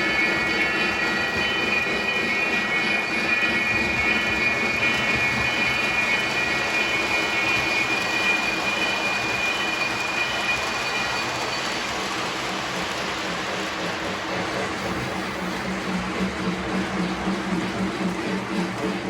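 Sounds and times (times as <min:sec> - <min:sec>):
high squealing whine: 0:00.0 - 0:19.0
model trains rolling on track: 0:00.0 - 0:19.0.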